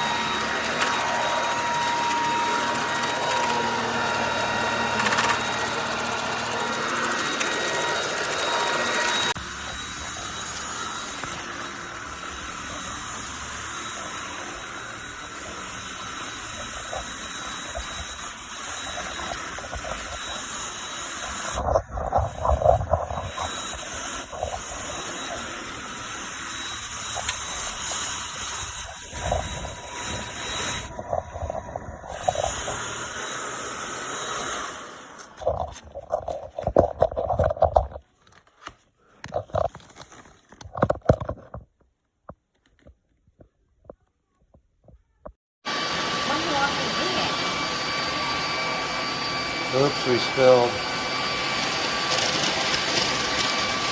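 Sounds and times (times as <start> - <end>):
stick vacuum running: 0.0 - 41.6, 45.7 - 53.9.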